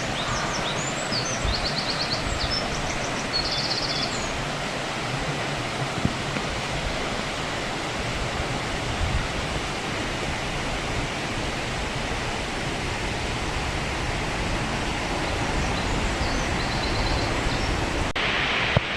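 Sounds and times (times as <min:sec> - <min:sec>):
river rushing over low waterfall: 0:00.0 - 0:18.9.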